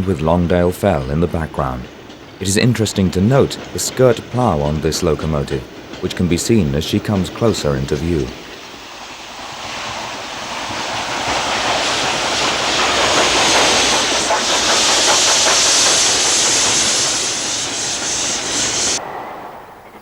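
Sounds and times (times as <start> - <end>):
steam locomotive passing: 0.0 - 20.0.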